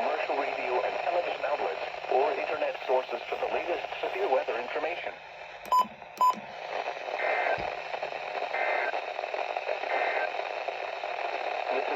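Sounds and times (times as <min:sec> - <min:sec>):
radio hiss: 0:00.0 - 0:05.6, 0:06.4 - 0:11.9.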